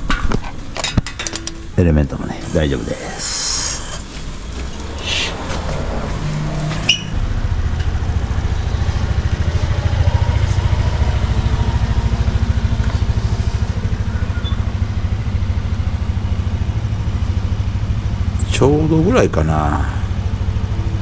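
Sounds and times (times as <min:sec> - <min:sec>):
car engine idling: 0:02.4 - 0:21.0.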